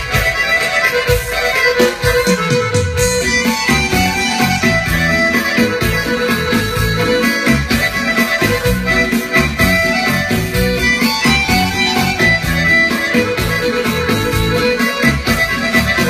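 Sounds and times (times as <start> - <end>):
accordion melody: 0.0 - 16.0
electronic keyboard beat and bass: 0.0 - 16.0.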